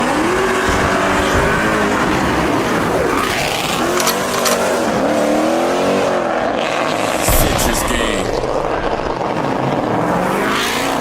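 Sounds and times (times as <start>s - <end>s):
muscle car engines revving: 0.0s - 11.0s.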